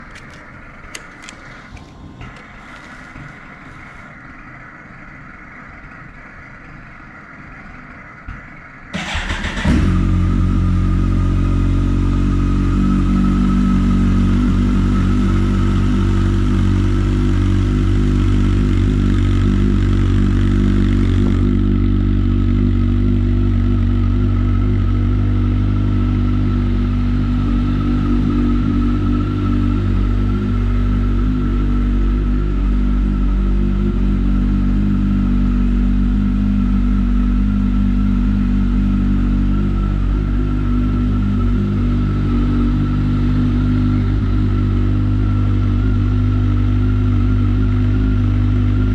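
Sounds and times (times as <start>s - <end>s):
motorcycle engine idling loudly: 0.0s - 48.9s
motorcycle engine starting: 0.0s - 48.9s.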